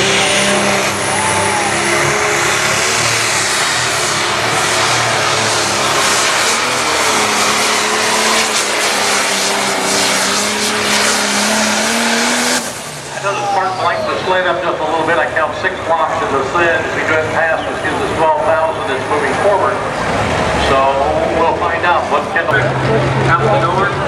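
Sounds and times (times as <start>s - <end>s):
tractor diesel engine drone: 0.0s - 24.0s.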